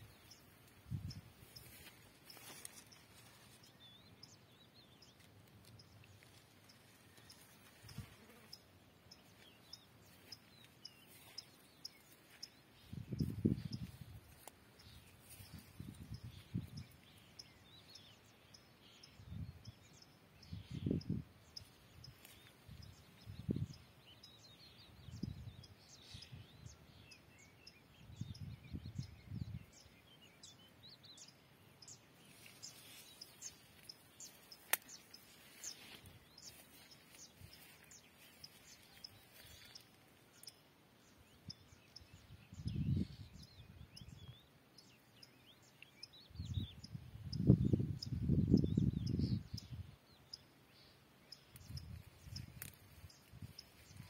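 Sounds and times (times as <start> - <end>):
faint bird chirping: 0.0 - 54.0.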